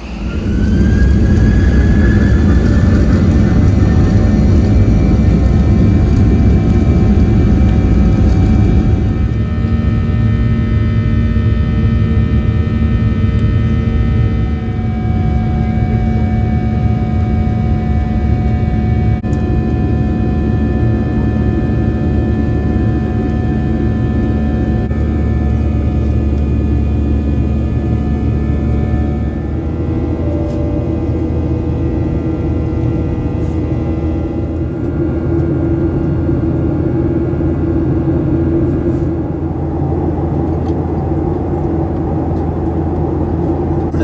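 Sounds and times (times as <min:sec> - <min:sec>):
jet engine whine: 0:00.0 - 0:44.0
jet engines rumbling in cabin: 0:00.0 - 0:44.0.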